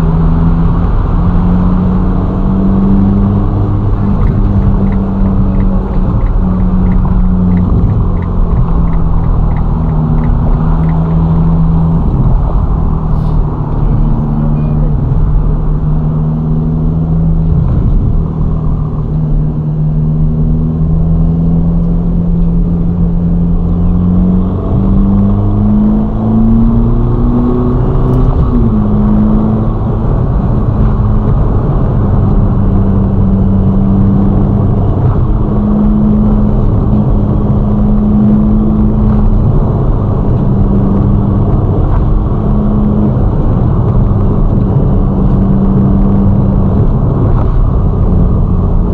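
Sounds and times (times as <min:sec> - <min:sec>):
car engine cruising: 0:00.0 - 0:48.9
tyre and road rumble: 0:00.0 - 0:48.9.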